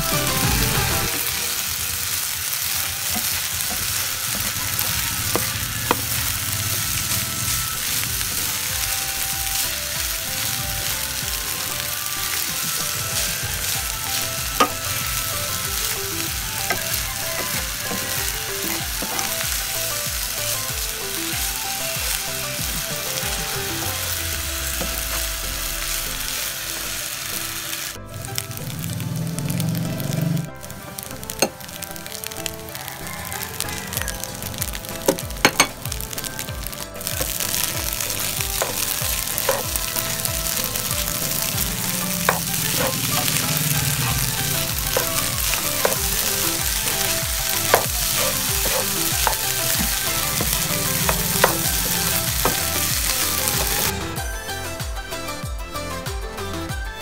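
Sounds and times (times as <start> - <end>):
rice sizzling in a hot pan: 0.0 - 54.2.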